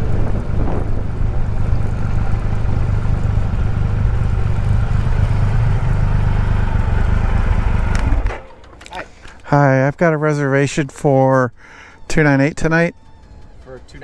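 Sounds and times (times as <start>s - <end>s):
motorcycle engine low rumble: 0.0s - 11.6s.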